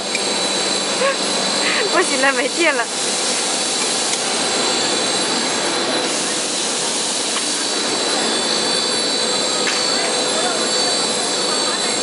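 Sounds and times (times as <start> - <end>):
extrusion machine hissing: 0.0 - 12.0.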